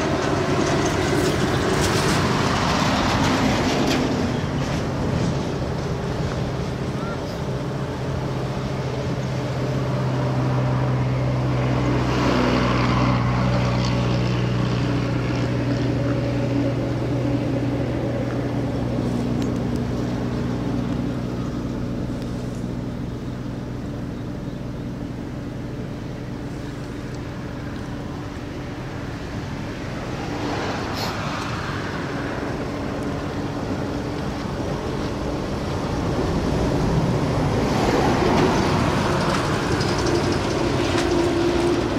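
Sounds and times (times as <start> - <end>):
engine humming steadily: 0.0 - 41.9.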